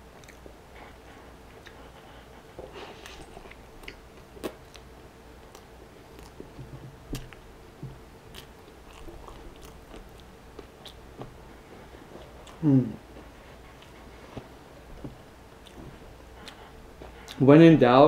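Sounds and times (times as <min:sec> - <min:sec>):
person chewing food: 0:00.0 - 0:17.4.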